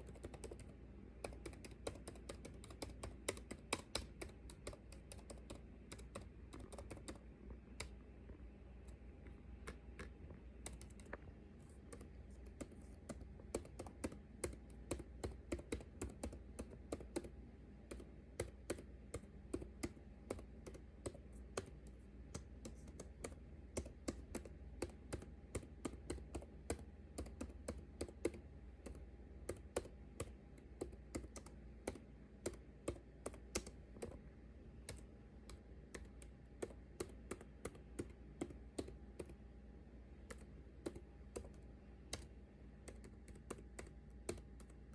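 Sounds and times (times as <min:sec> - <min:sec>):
typing on computer keyboard: 0:00.0 - 0:07.2, 0:09.7 - 0:11.2, 0:11.8 - 0:34.2, 0:34.8 - 0:39.4, 0:40.2 - 0:44.9.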